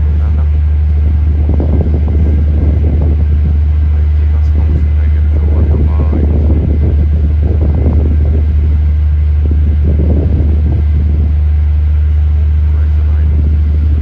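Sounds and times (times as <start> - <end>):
ferry engine low drone: 0.0 - 14.0.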